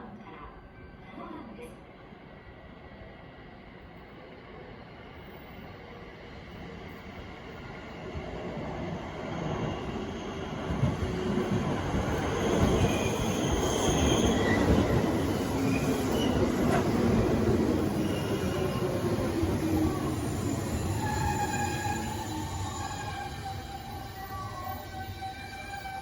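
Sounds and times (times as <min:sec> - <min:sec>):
electric train pulling in: 0:02.0 - 0:26.0.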